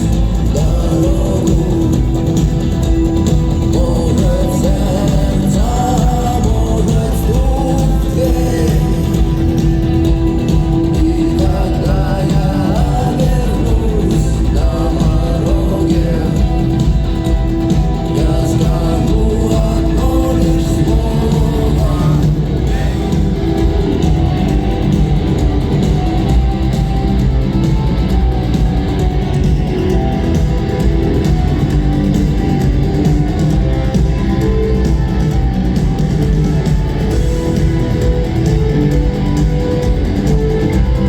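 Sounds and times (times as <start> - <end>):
rock band playing live: 0.0 - 41.0.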